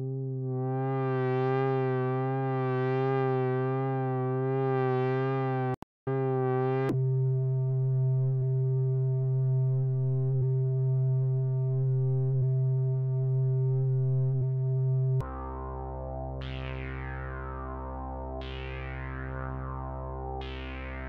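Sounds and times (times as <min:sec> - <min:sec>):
low buzzy synthesizer note: 0:00.0 - 0:21.0.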